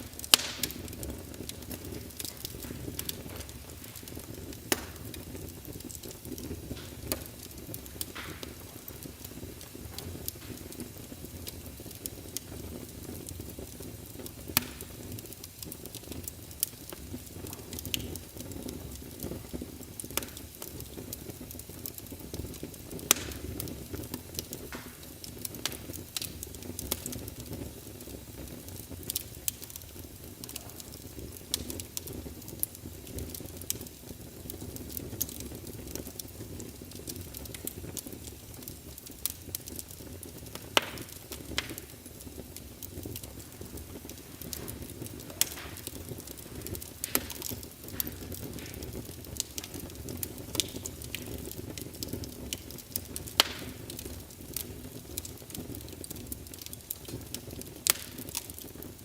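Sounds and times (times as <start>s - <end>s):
fire crackling and popping: 0.0s - 59.0s
wood fire rumbling: 0.0s - 59.0s.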